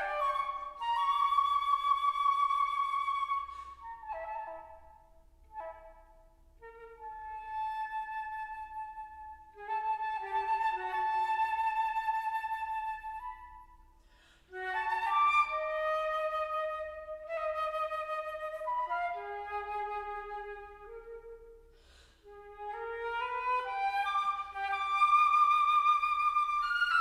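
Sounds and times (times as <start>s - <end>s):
solo flute playing held notes: 0.0s - 27.0s.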